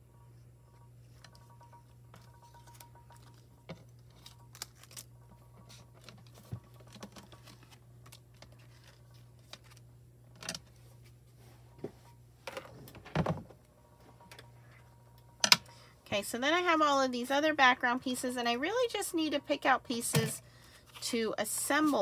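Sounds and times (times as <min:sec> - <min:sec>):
laminator humming: 0:00.0 - 0:22.0.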